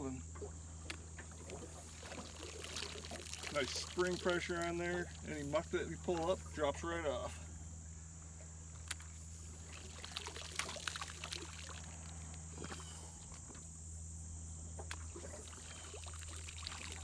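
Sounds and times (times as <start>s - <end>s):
small water splashes and drips: 0.0s - 6.7s, 8.4s - 13.7s, 14.8s - 17.0s
faint steady hum: 0.0s - 17.0s.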